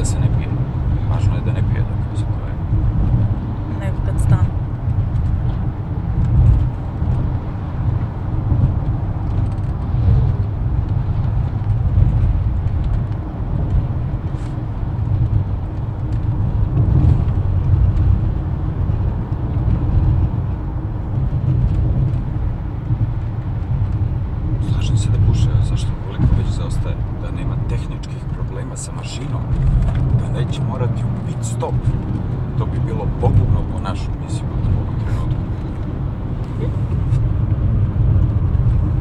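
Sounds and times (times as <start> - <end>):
car engine rumble: 0.0 - 39.0
tyre noise on road: 0.0 - 39.0.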